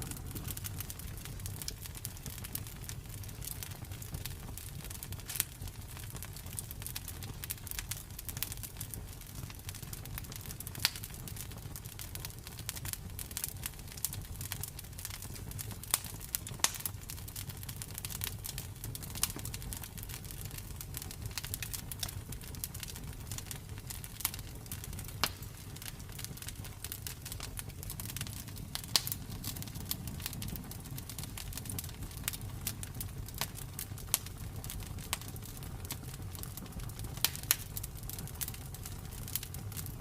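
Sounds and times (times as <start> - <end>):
sharp fire pops: 0.0 - 17.4, 18.0 - 40.0
campfire crackling: 0.0 - 40.0.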